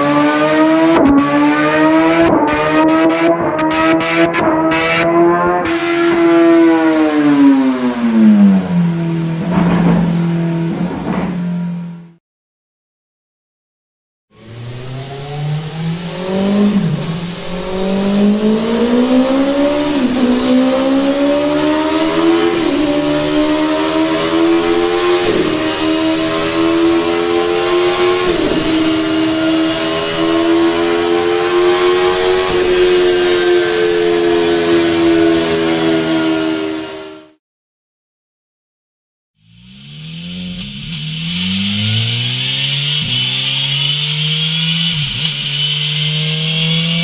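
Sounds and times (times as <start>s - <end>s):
motorcycle engine accelerating: 0.0s - 12.2s, 14.3s - 37.4s, 39.4s - 47.0s.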